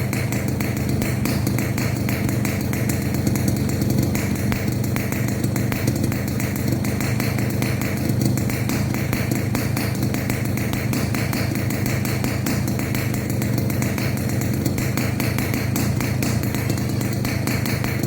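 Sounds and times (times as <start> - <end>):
two-stroke engine running: 0.0 - 18.0.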